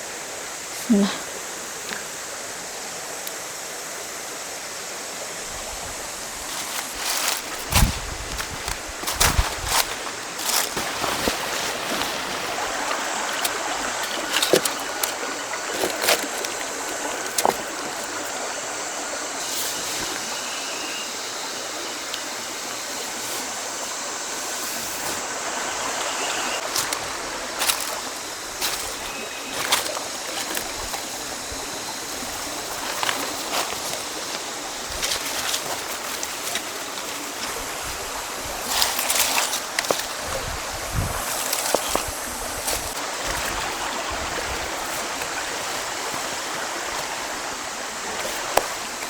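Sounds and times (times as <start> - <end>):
river flowing: 0.0 - 49.0
small splashes: 6.4 - 20.4, 22.1 - 49.0.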